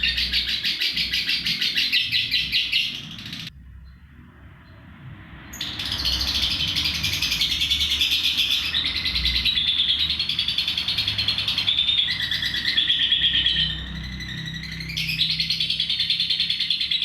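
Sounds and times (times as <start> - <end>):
bird chattering calls: 0.0 - 3.5, 5.6 - 17.0.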